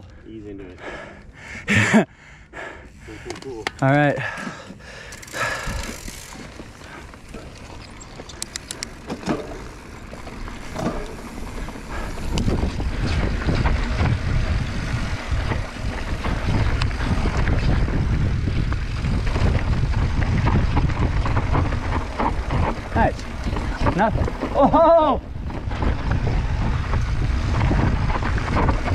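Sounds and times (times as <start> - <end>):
bike clicks: 0.0 - 28.9
tyres running over dirt: 2.6 - 28.9
bike knocks and rattles: 3.3 - 28.9
wind rumble on microphone: 5.3 - 28.9.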